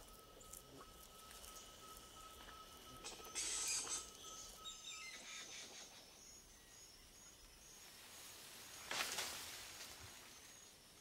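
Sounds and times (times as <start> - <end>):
faint high insect tones: 0.0 - 11.0
steady high insect tone: 0.0 - 11.0.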